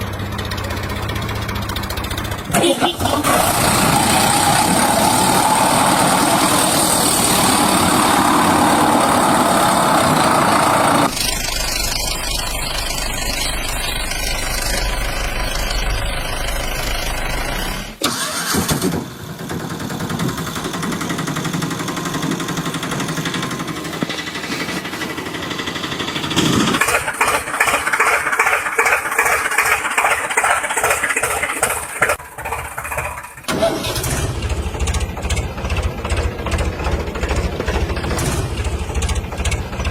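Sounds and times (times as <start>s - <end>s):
engines running: 0.0s - 39.9s.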